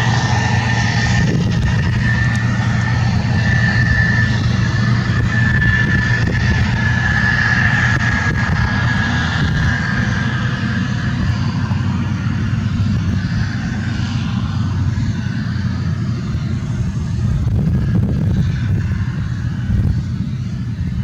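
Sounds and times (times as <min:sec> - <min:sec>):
combine engine drone: 0:00.0 - 0:21.0
high machine whine: 0:00.0 - 0:21.0.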